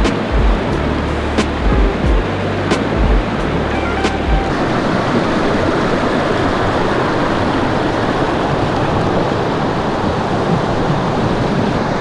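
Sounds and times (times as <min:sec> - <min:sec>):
water rushing through culvert: 0:00.0 - 0:12.0.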